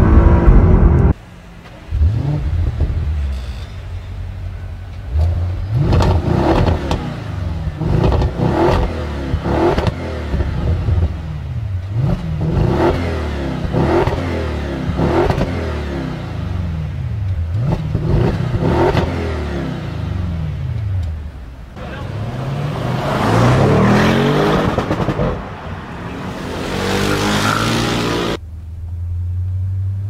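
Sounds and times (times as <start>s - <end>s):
car engine revving: 1.8s - 3.2s, 5.0s - 28.4s.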